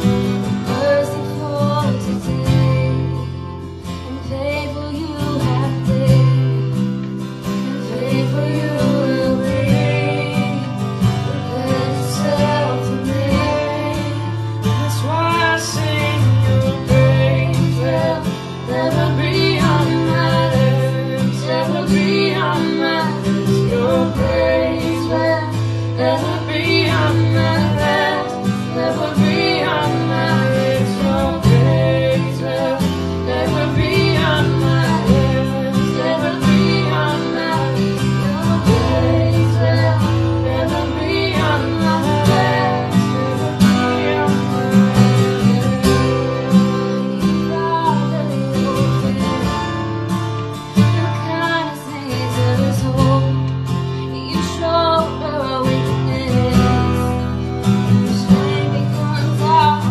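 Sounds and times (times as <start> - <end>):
person singing: 0.0 - 6.8, 7.6 - 49.9, 50.8 - 59.9
acoustic guitar strumming: 0.0 - 59.9.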